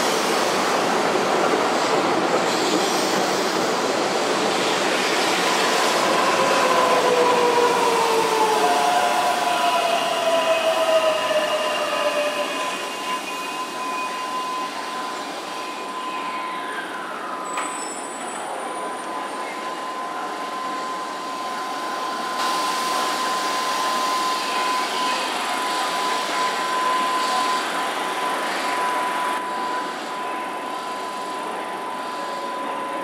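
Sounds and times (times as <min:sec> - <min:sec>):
train rolling and braking: 0:00.0 - 0:33.0
steady high tone: 0:05.5 - 0:33.0.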